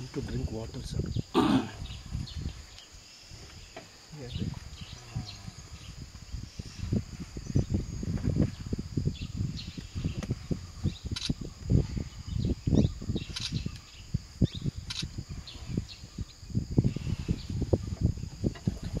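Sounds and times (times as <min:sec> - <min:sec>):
high insect drone: 0:00.0 - 0:19.0
low thumps and rumbles: 0:03.4 - 0:19.0.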